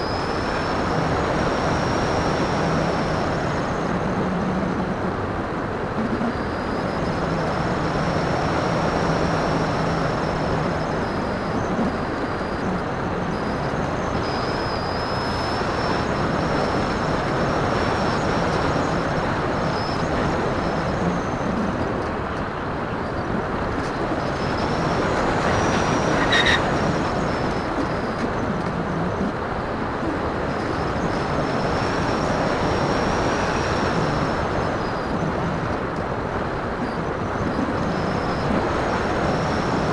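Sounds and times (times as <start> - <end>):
electric motor whine: 0.0 - 39.9
wind rush over airframe: 0.0 - 39.9.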